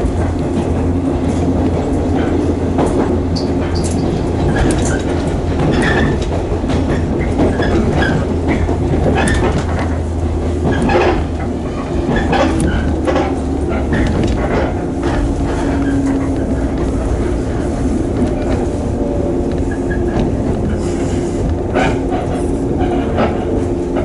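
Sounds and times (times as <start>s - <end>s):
train rumble and hum: 0.0s - 24.0s
wheels clicking on rails: 0.0s - 24.0s.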